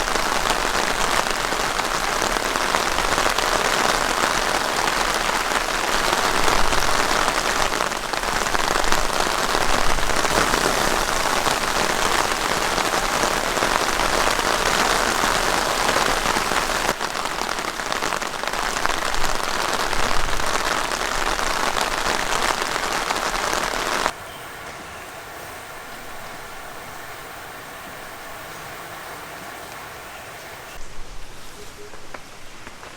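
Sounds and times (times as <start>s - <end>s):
heavy rain on tent fabric: 0.0s - 31.2s.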